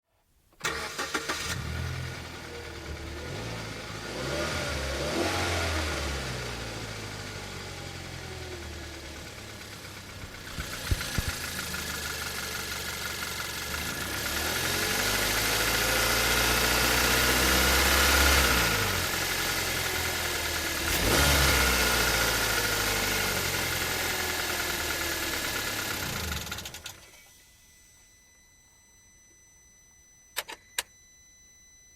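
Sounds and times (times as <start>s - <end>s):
car engine revving: 0.6s - 26.9s.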